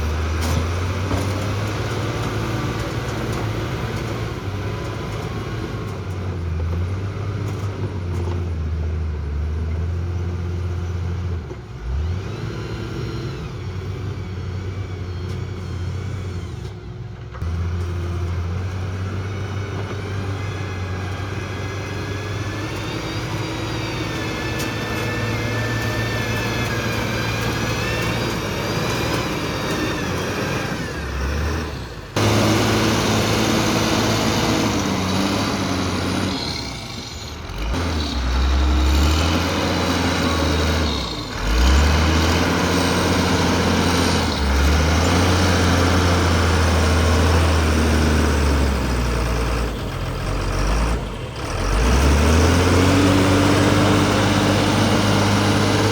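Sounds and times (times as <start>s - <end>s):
heavy diesel engines working: 0.0s - 55.9s.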